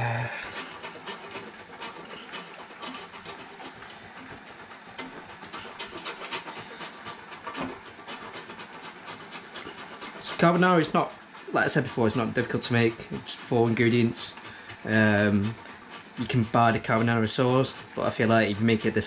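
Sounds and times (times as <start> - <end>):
cheese rasping on metal grater: 0.0 - 19.0.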